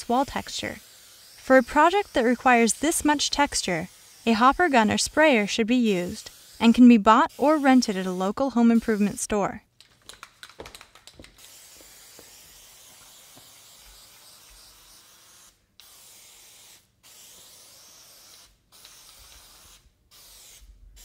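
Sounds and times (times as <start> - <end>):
aerosol can spraying with a hiss: 0.0 - 9.3, 10.1 - 21.0.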